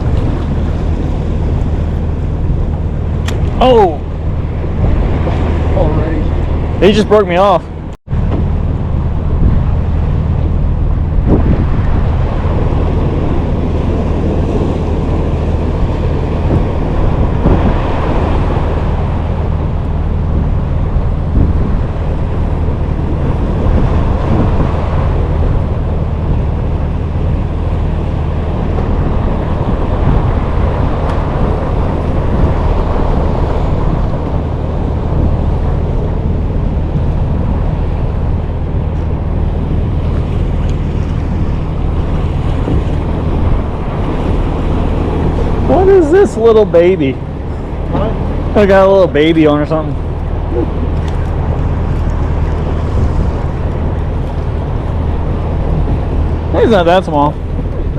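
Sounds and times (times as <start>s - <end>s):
steady low hum: 0.0s - 57.9s
water washing around boat: 0.0s - 57.9s
wind buffeting microphone: 0.0s - 57.9s.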